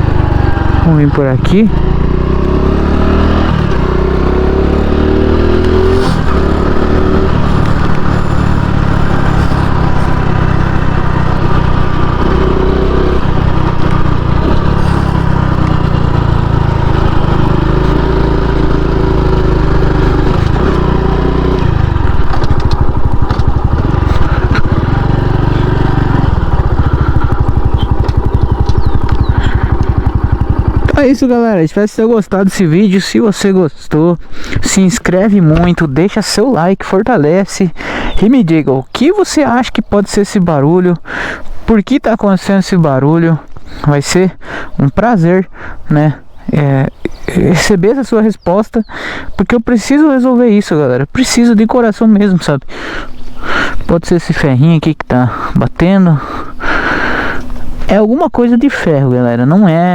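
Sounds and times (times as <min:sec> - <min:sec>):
motorcycle engine running: 0:00.0 - 0:50.4, 0:51.1 - 0:58.0.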